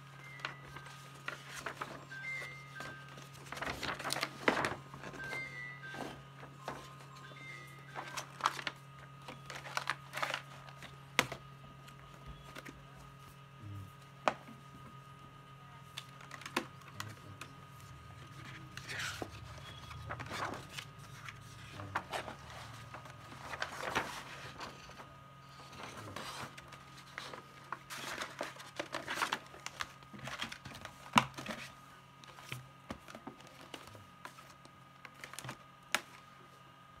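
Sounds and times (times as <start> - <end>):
faint steady hum: 0.0 - 37.0
paper pages rustling: 0.2 - 12.7, 16.1 - 36.2.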